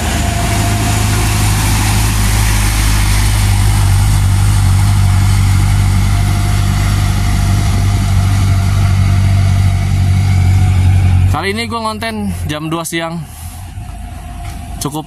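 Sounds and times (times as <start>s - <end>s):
diesel truck engine pulling uphill: 0.0s - 15.0s.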